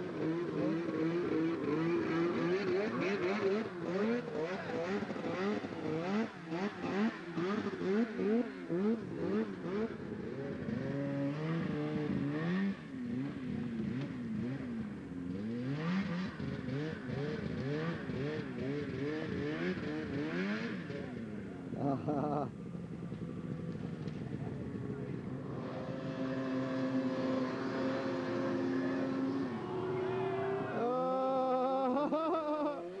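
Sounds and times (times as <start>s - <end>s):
snowmobile engines revving: 0.0s - 33.0s.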